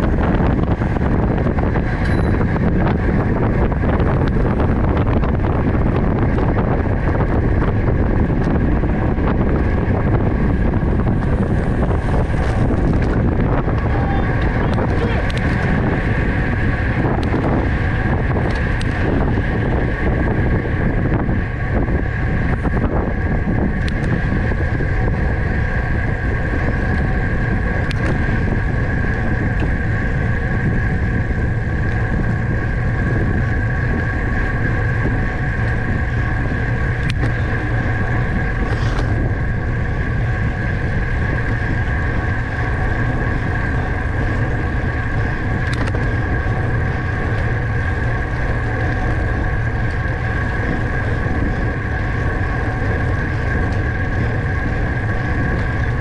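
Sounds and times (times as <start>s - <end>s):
high whine: 0.0s - 56.0s
wind buffeting microphone: 0.0s - 56.0s.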